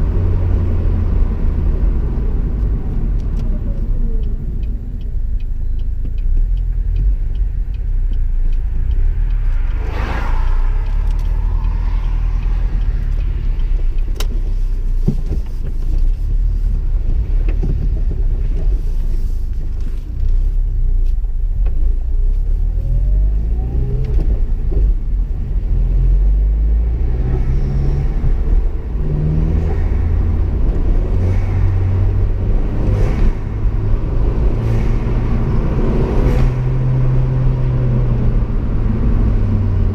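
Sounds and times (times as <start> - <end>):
car engine revving: 0.0 - 15.5, 22.4 - 39.9.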